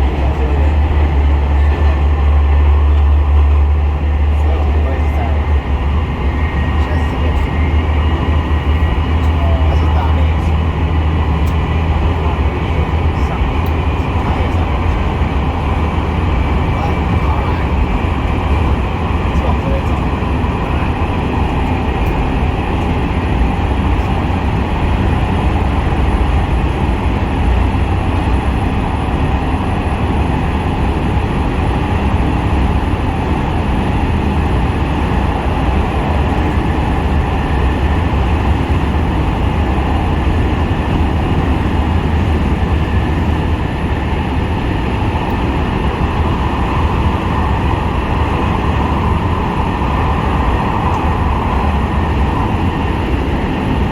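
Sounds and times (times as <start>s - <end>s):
diesel railcar engine rumble: 0.0s - 53.9s
wheel and rail noise: 0.0s - 53.9s.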